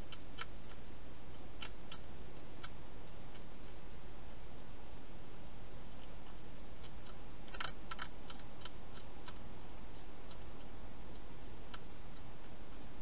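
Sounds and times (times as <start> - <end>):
hedgehog crunching dry food: 0.0 - 3.9, 5.4 - 12.0.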